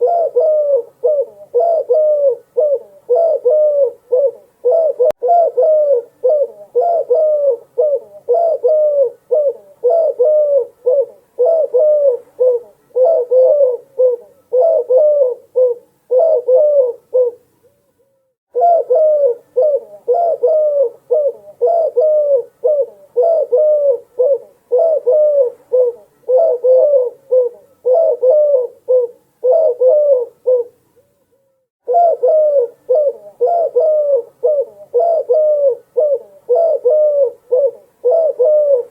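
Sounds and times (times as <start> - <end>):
doves cooing: 0.0 - 17.5, 18.5 - 30.8, 31.8 - 38.9.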